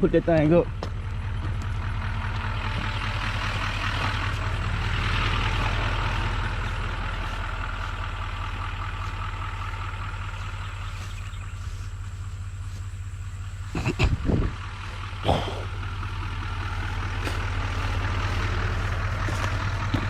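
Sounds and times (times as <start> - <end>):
low engine hum: 0.0 - 20.0
road and tyre noise: 0.0 - 20.0.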